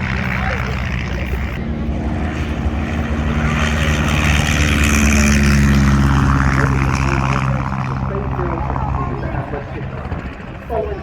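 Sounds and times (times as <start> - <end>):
propeller aircraft engine droning: 0.0 - 11.0.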